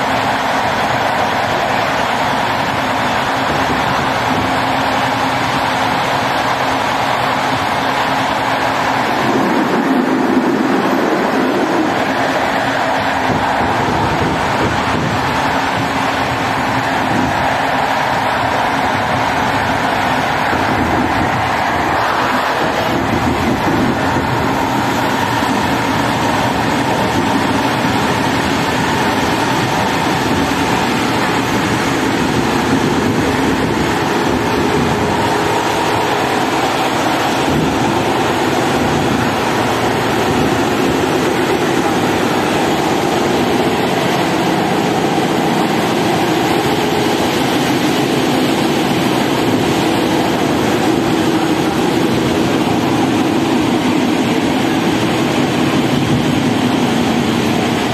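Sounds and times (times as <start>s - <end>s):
train wheels on track: 0.0s - 57.9s.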